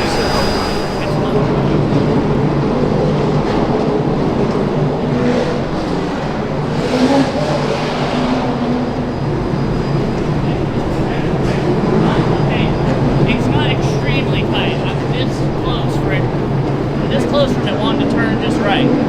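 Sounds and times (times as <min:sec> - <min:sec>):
race car engine running: 0:00.0 - 0:18.9.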